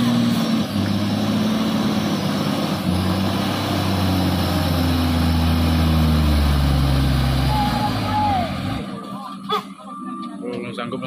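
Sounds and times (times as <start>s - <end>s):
truck diesel engine labouring: 0.0s - 11.0s.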